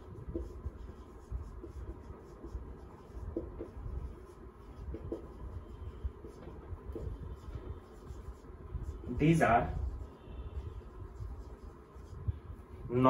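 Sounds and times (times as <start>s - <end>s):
pen scratching strokes: 0.0s - 12.8s.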